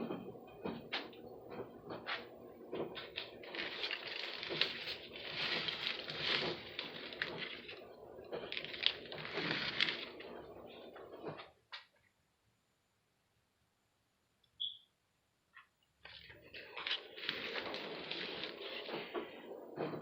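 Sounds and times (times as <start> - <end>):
rustling and crinkling handling noise: 0.1 - 12.1, 15.6 - 20.0.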